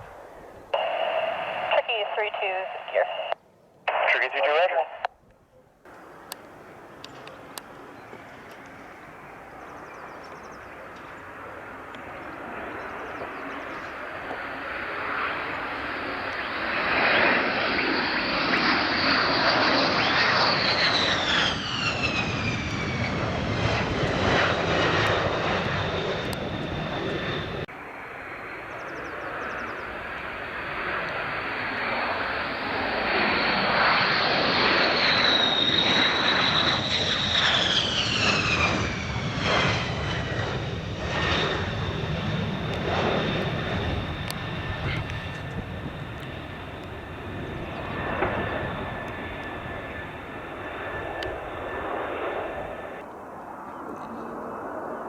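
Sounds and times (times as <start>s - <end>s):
military jet passing: 0.0s - 5.1s, 5.9s - 55.0s
high jet whine falling in pitch: 0.7s - 5.1s, 5.9s - 53.1s.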